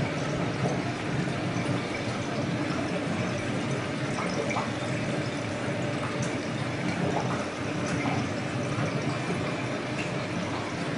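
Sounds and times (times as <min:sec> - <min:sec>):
aquarium water bubbling and trickling: 0:00.0 - 0:10.9.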